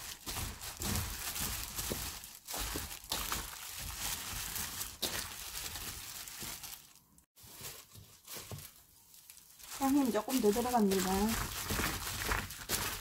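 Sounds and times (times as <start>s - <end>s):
plastic glove crinkling: 0.0s - 13.0s.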